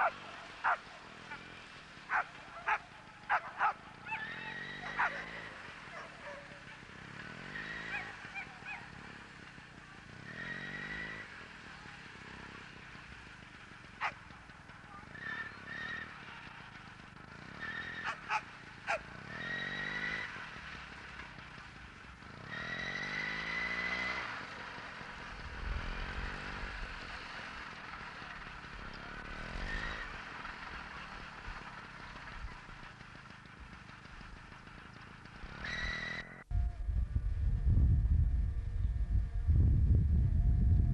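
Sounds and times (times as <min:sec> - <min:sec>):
small motor revving whine: 0:00.0 - 0:13.6, 0:15.0 - 0:16.5, 0:17.2 - 0:32.9, 0:35.2 - 0:40.9.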